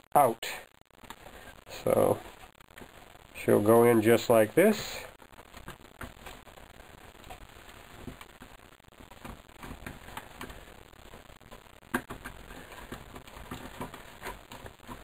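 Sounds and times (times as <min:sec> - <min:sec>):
rubber gasket crackling and ticking: 0:00.1 - 0:15.0.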